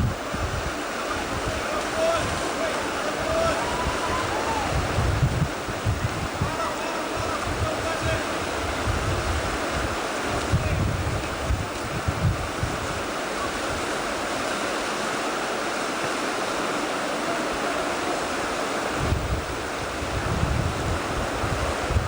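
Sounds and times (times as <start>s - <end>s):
wind buffeting microphone: 0.0s - 14.4s, 17.5s - 22.0s
river water rushing: 0.0s - 22.0s.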